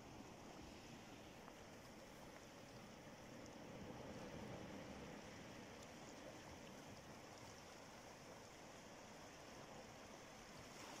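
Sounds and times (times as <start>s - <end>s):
sea water washing over rocks: 0.0s - 11.0s.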